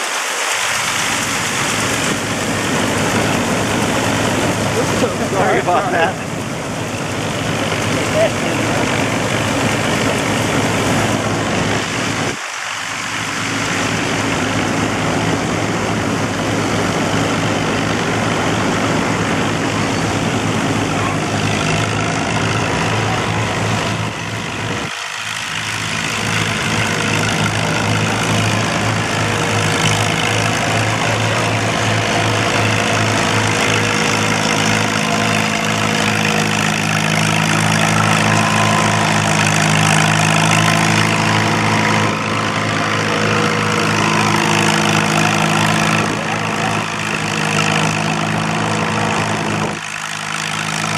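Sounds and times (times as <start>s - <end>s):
threshing machine rattle: 0.0s - 50.9s
tractor engine running: 0.0s - 50.9s.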